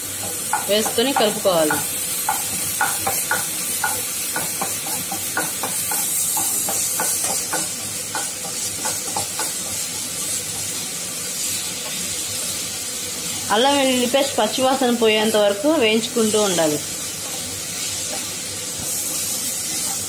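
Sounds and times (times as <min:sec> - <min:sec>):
vegetables sizzling in oil: 0:00.0 - 0:20.0
spatula scraping and stirring: 0:00.1 - 0:13.6, 0:16.2 - 0:20.0.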